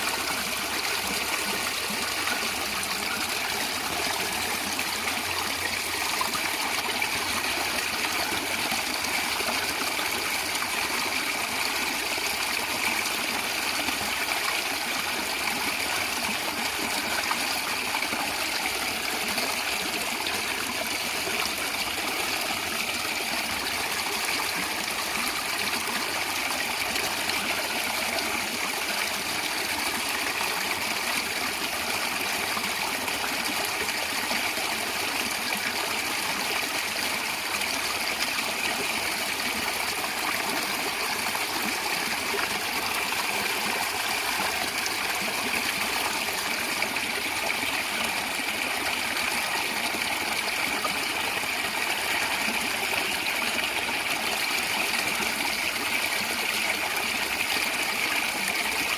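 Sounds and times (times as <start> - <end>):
stream flowing and gurgling: 0.0 - 58.9.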